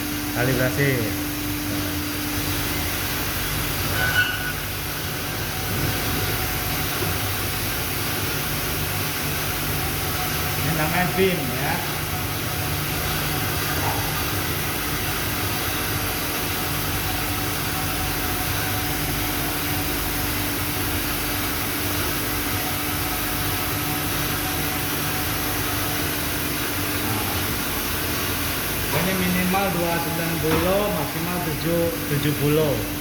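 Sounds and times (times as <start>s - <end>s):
machine humming and hissing: 0.0s - 33.0s.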